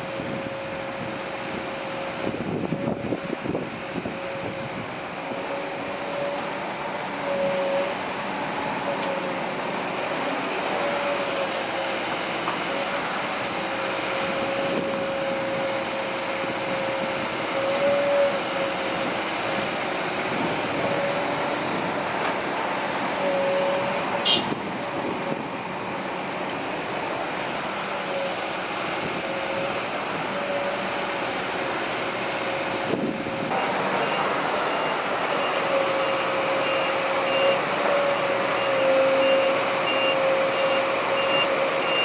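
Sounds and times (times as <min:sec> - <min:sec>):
excavator diesel engine under load: 0:00.0 - 0:42.0
hydraulic whine: 0:00.0 - 0:42.0.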